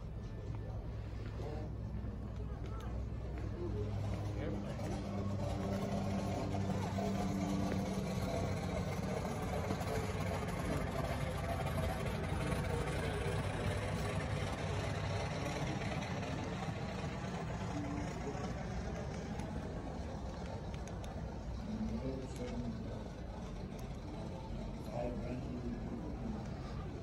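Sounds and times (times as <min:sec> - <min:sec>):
low mechanical drone: 0:00.0 - 0:27.0.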